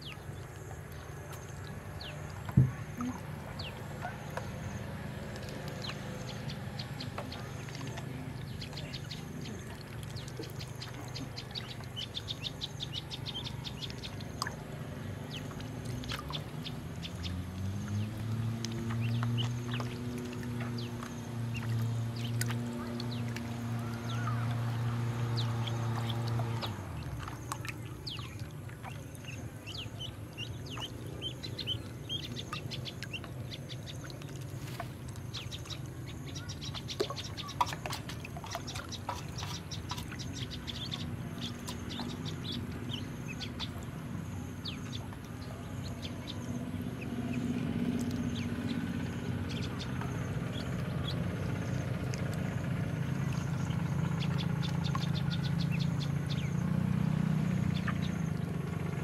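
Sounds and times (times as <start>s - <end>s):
ducklings peeping: 0.0s - 59.0s
low steady hum: 0.0s - 59.0s.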